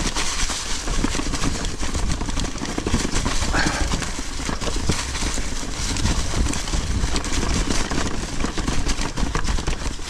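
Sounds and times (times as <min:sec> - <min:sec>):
bike rattling over bumps: 0:00.0 - 0:10.0
bike tyres and air rumbling: 0:00.0 - 0:10.0.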